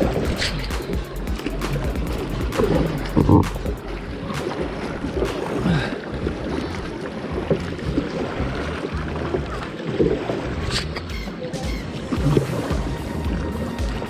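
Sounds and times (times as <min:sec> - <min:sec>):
kayak paddle splashing water: 0:00.0 - 0:14.0.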